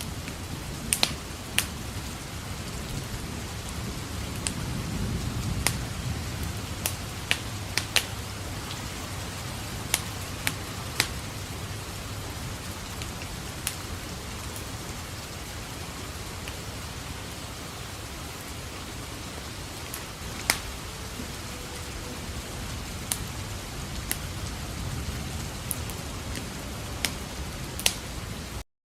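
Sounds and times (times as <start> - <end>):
steady rain: 0.0 - 28.6
wood fire crackling: 0.0 - 28.6.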